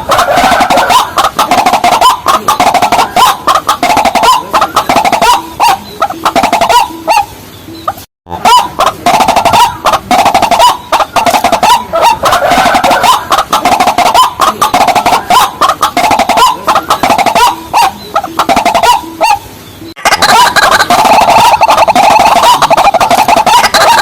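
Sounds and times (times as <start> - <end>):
waterhen clucking calls: 0.0 - 24.0.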